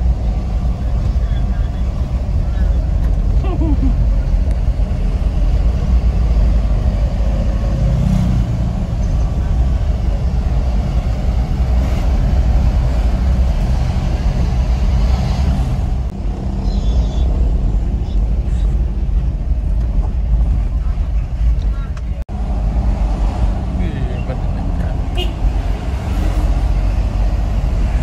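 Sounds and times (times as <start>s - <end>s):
diesel engine running: 0.0s - 28.0s
road noise: 0.0s - 28.0s.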